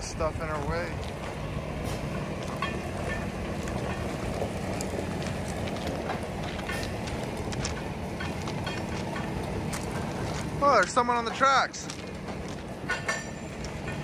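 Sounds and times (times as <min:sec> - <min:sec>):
towing gear rattling: 0:00.0 - 0:14.0
truck engine running: 0:00.0 - 0:14.0
tires crackling on gravel: 0:00.1 - 0:13.9.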